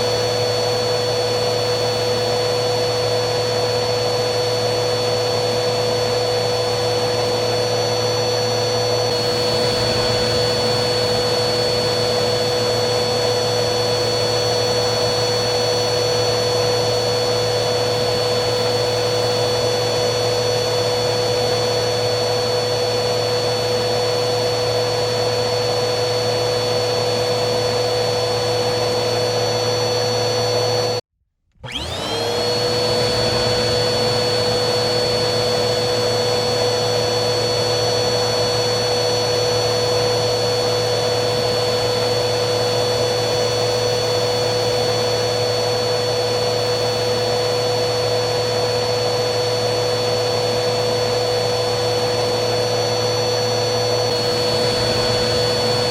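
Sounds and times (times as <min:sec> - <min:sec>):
vacuum cleaner motor whining: 0:00.0 - 0:55.9.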